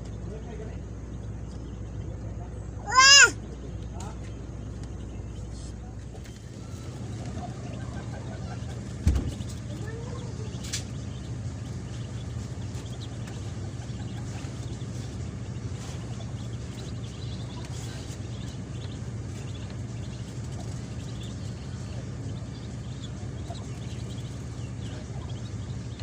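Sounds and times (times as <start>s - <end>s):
ducklings peeping: 0.0s - 26.0s
steady low hum: 0.0s - 26.0s.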